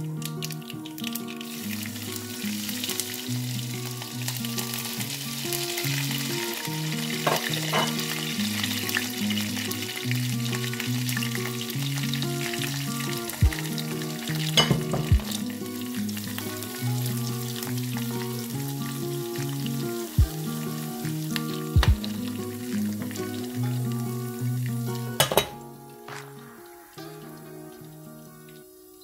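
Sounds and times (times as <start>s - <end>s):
background music with low notes: 0.0s - 29.0s
oil sizzling and crackling: 0.0s - 29.0s.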